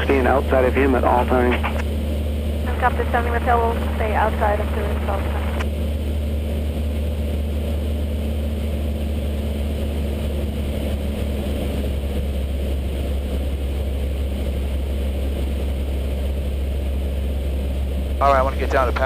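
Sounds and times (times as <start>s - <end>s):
propeller plane engine droning: 0.0s - 19.0s.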